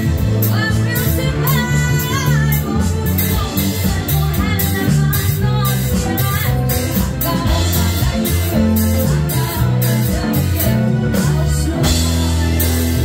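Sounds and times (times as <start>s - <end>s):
live band playing: 0.0s - 13.0s
woman singing: 0.0s - 13.0s.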